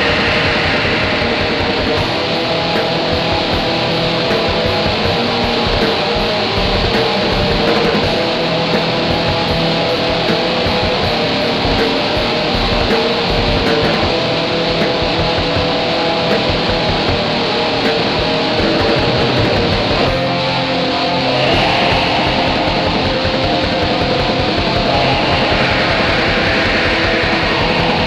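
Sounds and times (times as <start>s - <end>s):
black metal with distorted guitars: 0.0s - 28.0s.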